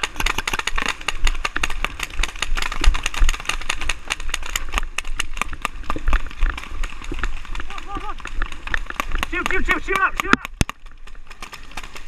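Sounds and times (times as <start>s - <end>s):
paintball guns popping: 0.0s - 12.0s.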